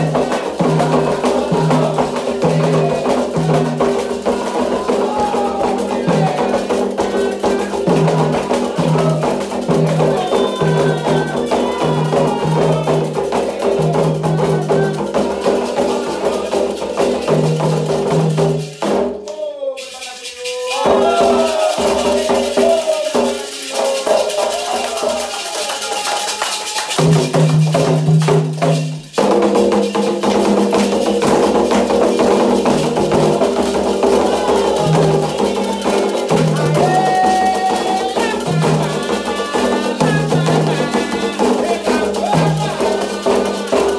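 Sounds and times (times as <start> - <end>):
voices singing: 0.0 - 27.5, 30.0 - 43.9
hand drums: 0.0 - 43.9
struck percussion: 0.0 - 43.9.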